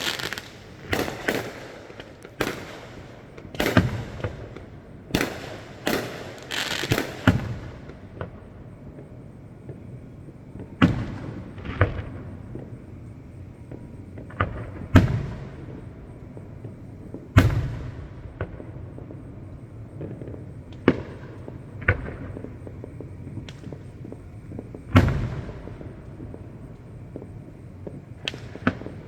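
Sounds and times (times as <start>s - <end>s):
fireworks booming: 0.0s - 29.0s.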